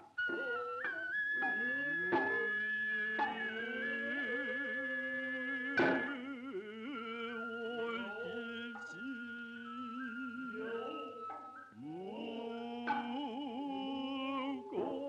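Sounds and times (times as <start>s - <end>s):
high flute: 0.0s - 15.0s
slow chanting voices: 0.0s - 15.0s.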